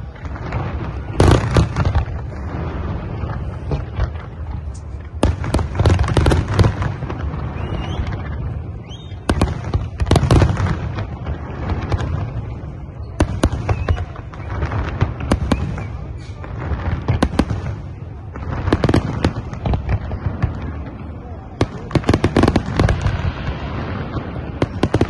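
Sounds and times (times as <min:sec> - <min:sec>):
fireworks bursting with sharp bangs: 0:00.0 - 0:25.0.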